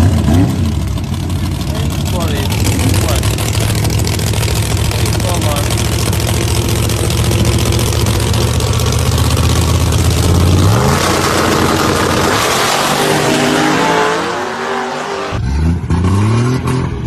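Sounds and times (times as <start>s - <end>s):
car engine idling and revving: 0.0s - 17.0s
another engine revving: 2.2s - 17.0s.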